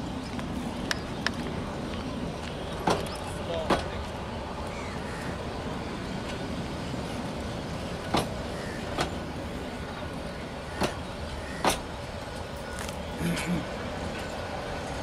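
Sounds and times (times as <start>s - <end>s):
rumble of train wheels on rail: 0.0s - 15.0s
wheels clacking over track: 0.0s - 15.0s.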